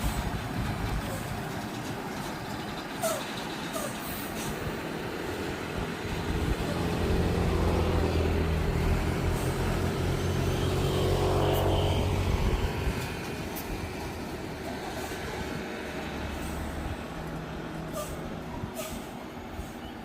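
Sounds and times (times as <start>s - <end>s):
heavy truck engine running: 0.0s - 20.0s.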